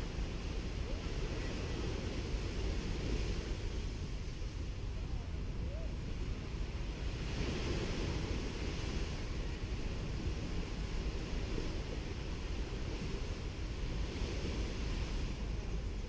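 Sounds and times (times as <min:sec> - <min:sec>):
small waves washing onto beach: 0:00.0 - 0:16.0
wind rumble on microphone: 0:00.0 - 0:16.0.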